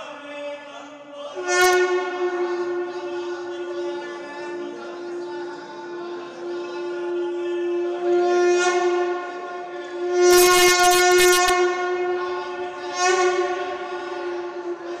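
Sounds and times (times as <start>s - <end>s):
steady horn-like tone: 1.4s - 15.0s.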